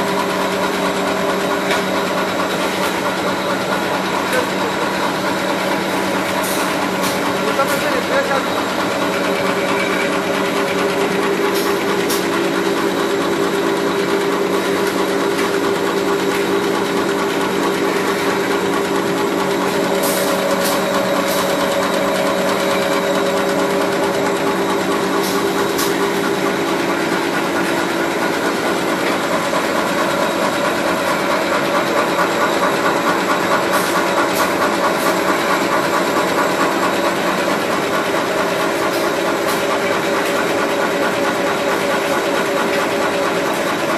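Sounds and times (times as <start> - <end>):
paper cutting machine running: 0.0 - 43.9.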